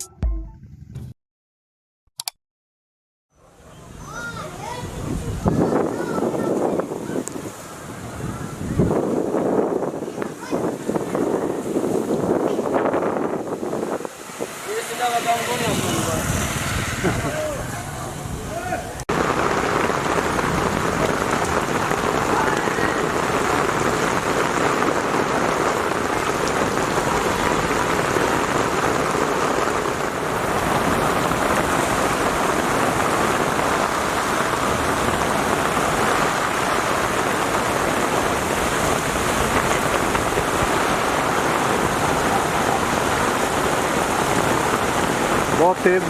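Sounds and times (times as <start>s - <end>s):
heavy rain pouring: 3.8s - 46.0s.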